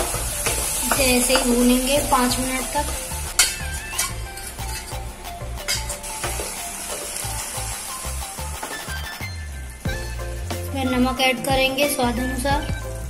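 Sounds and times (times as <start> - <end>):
background music with bass line: 0.0 - 13.0
onions sizzling in hot oil: 0.0 - 13.0.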